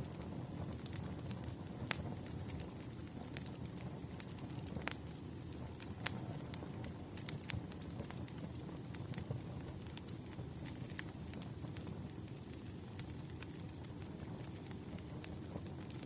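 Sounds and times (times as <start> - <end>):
firewood crackling and popping: 0.0 - 16.0
low rumble of flame: 0.0 - 16.0.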